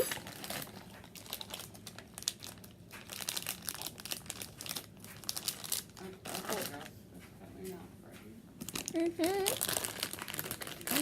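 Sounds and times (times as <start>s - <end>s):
candy wrappers crinkling: 0.0s - 6.9s, 8.6s - 11.0s.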